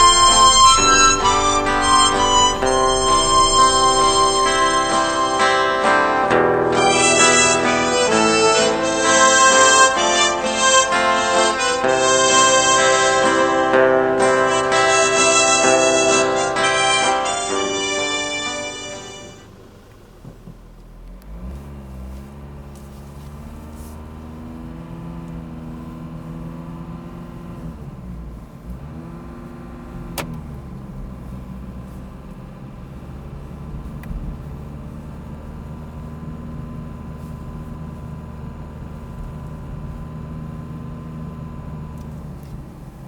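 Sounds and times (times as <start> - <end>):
car engine running: 0.0 - 43.0.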